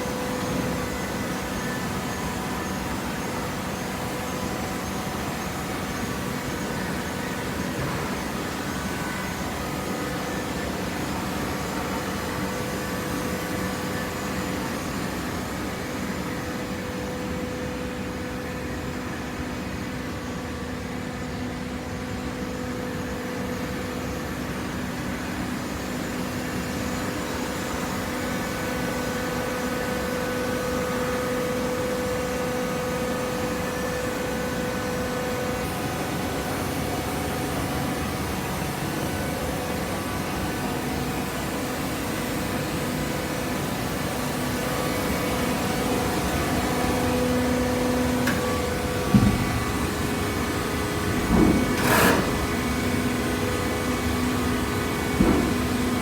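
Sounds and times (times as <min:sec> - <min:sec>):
hydraulic power unit humming: 0:00.0 - 0:56.0.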